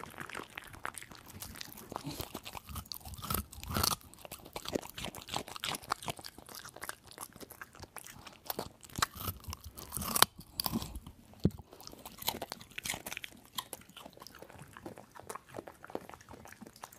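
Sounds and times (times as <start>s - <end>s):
dog crunching food: 0.0s - 16.9s.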